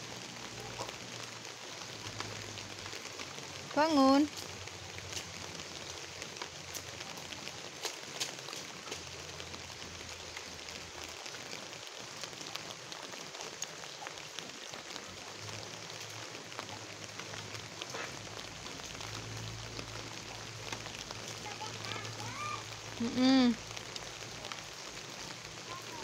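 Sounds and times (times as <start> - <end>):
light rain on a puddle: 0.0 - 26.0.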